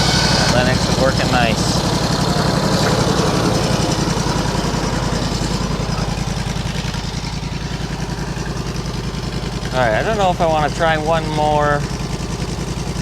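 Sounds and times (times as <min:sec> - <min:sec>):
bandsaw mill engine running: 0:00.0 - 0:13.0.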